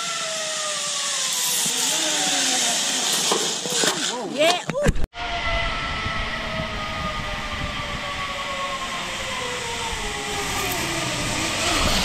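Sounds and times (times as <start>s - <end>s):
zip line pulleys whirring: 0.0s - 4.5s, 5.2s - 12.0s.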